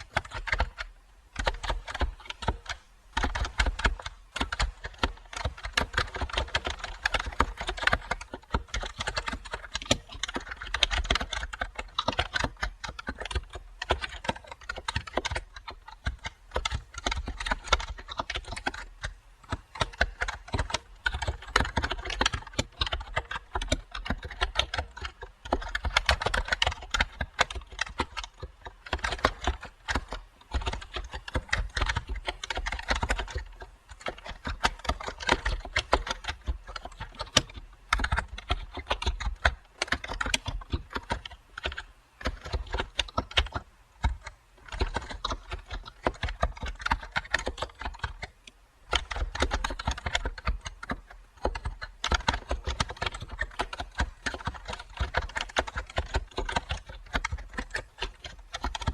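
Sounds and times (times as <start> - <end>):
keyboard typing clicks: 0.0 - 58.9.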